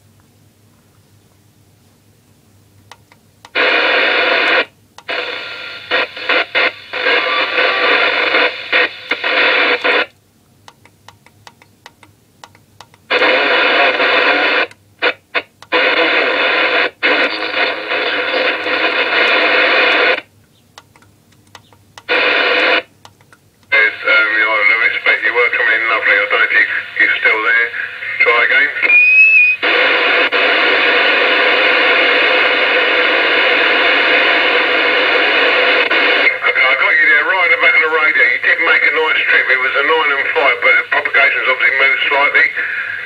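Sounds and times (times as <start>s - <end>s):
radio static hiss: 2.9s - 43.0s.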